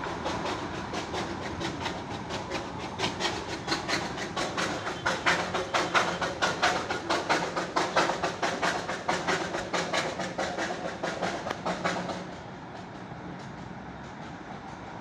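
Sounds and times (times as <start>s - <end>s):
toy train running on track: 0.0s - 13.1s.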